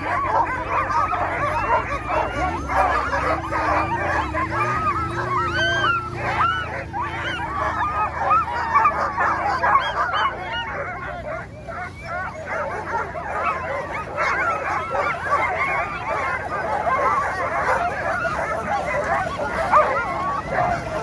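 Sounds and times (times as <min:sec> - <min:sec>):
dogs barking and yelping: 0:00.0 - 0:21.0.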